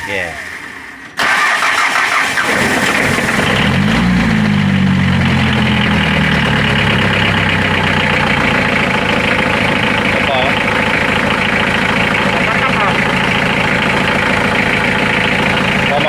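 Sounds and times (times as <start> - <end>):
diesel engine cranking and starting: 0.0 - 16.0.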